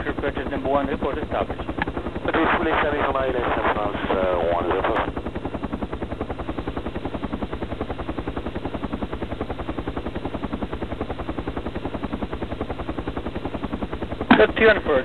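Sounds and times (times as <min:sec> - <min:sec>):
helicopter rotor thumping: 0:00.0 - 0:15.0.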